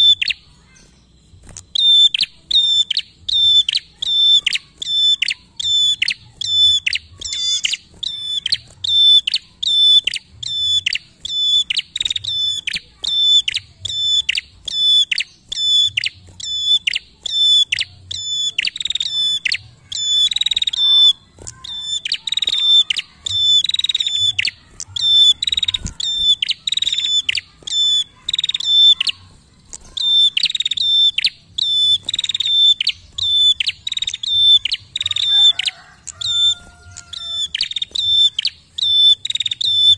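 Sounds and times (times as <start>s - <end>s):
bird singing sharp high notes: 0.0s - 39.9s.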